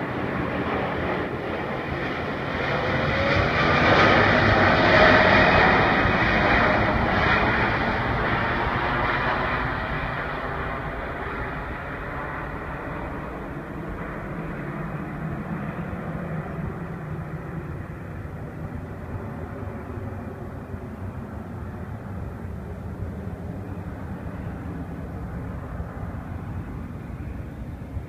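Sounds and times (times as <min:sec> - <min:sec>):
distant jet engines rumbling: 0:00.0 - 0:28.0.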